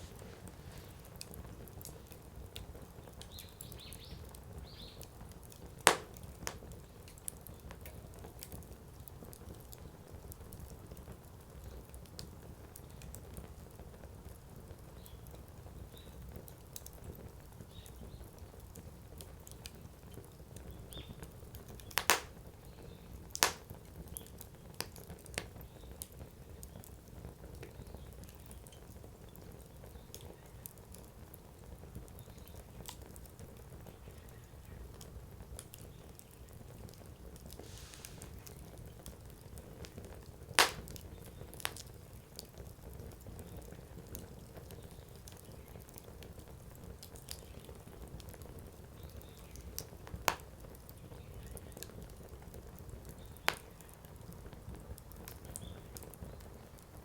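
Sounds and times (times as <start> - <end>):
burning wood popping: 0.0 - 11.1, 15.0 - 26.9, 27.6 - 57.0
campfire flames rumbling: 0.0 - 57.0.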